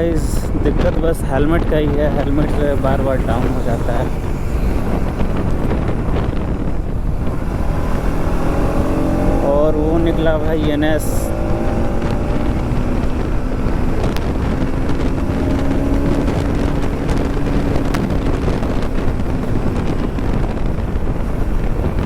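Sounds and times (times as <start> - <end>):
motorcycle engine drone: 0.0 - 22.0
wind roar on helmet mic: 0.0 - 22.0.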